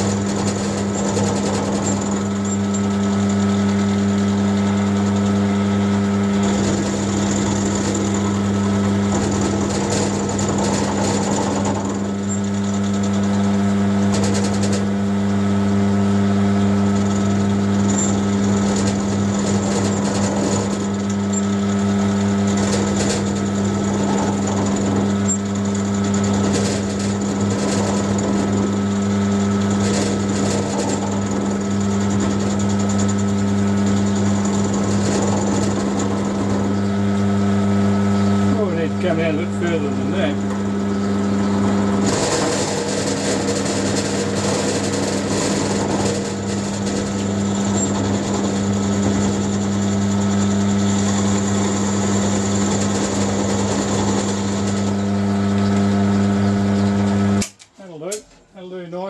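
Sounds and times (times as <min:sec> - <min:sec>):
drill bit cutting steel: 0:00.0 - 0:13.5, 0:16.6 - 0:57.6
electric motor hum: 0:00.0 - 0:59.0.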